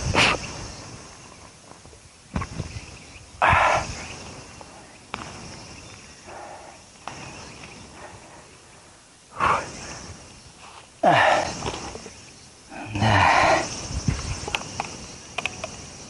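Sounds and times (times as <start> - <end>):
branches rustling: 0.0 - 16.0.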